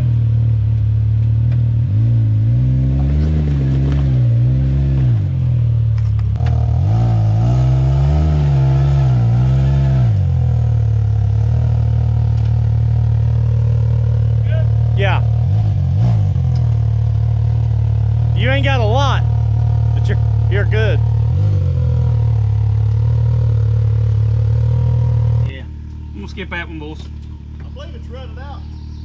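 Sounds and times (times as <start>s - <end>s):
utility vehicle engine revving: 0.0s - 29.0s.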